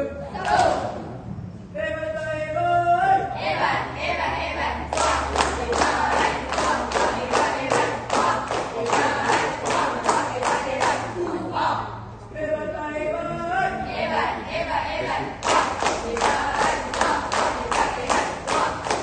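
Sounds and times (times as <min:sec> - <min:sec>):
voices: 0:00.0 - 0:19.0.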